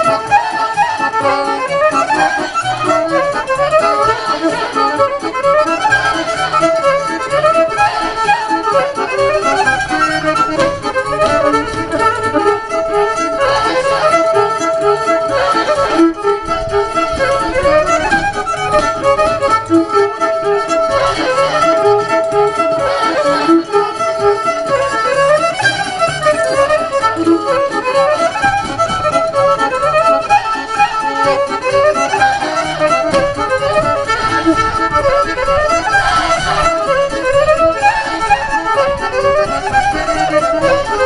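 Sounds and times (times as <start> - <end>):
fiddle-led folk dance music: 0.0 - 41.0.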